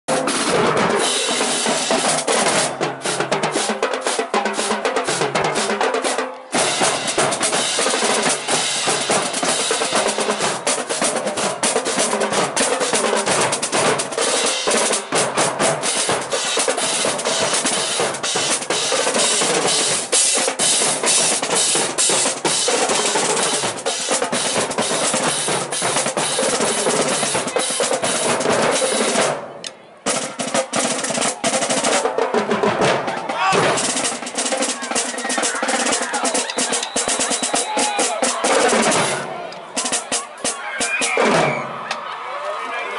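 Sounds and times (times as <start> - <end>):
marching drumline playing: 0.1 - 42.2.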